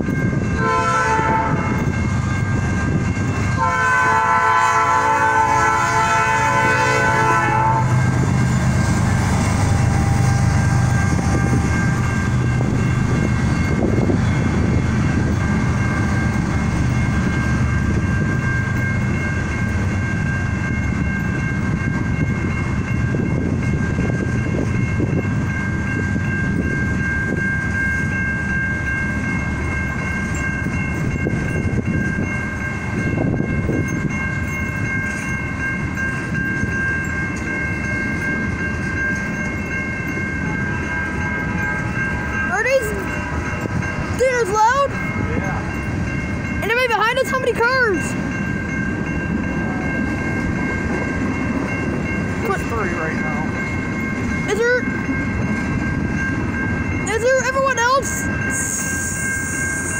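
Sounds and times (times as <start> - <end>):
train wheels rumbling on rails: 0.0 - 59.9
thin high ringing tones: 7.8 - 59.9.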